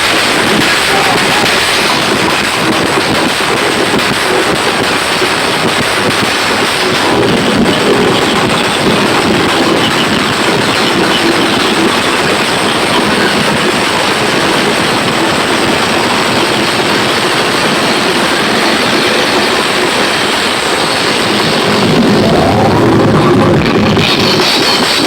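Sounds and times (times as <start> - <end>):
loud distorted sound system playback: 0.0 - 25.0.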